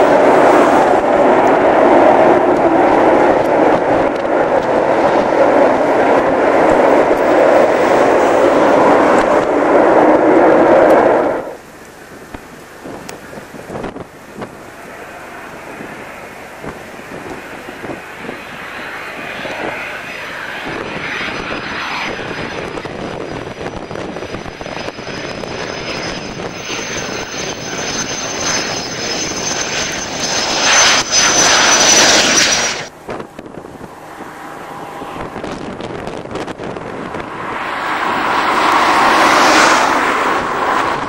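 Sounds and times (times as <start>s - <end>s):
aircraft turbine engine whine: 0.0s - 41.0s.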